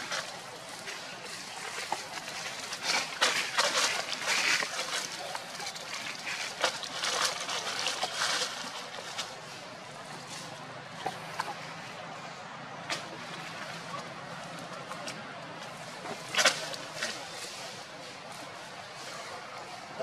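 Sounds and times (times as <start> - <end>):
dry leaves crackling and rustling: 0.0 - 20.0.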